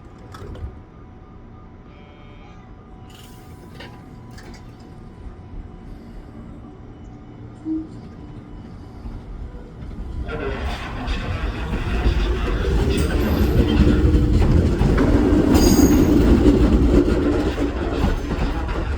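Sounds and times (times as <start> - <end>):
electric train running noise: 0.0 - 18.9.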